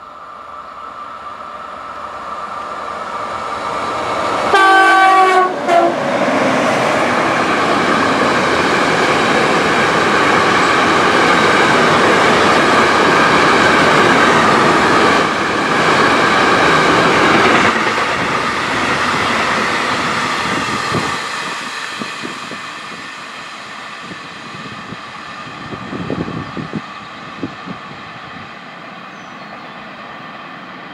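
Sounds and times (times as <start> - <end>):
freight train wheels on rails: 0.0 - 30.9.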